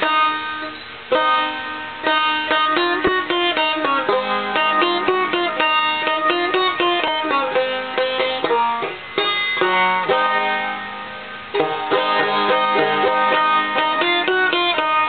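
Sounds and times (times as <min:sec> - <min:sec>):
banjo plucking and strumming: 0:00.0 - 0:15.0.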